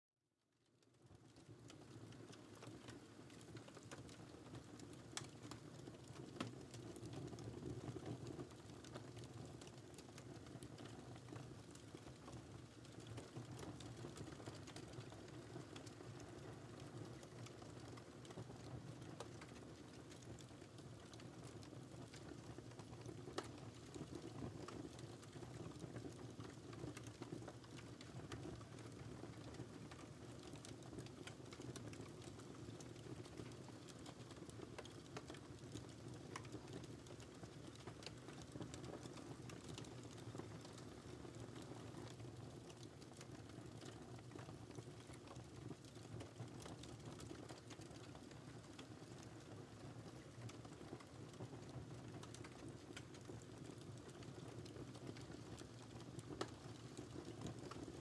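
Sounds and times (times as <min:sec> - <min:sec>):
fire crackles and pops: 0:00.7 - 0:58.0
rumble of flames: 0:01.0 - 0:58.0.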